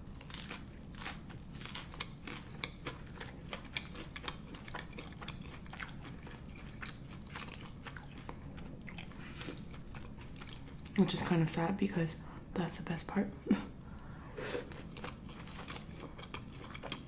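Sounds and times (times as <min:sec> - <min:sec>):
close-mic chewing crunches: 0:00.0 - 0:11.8, 0:14.6 - 0:17.0
steady low hum: 0:00.0 - 0:17.0.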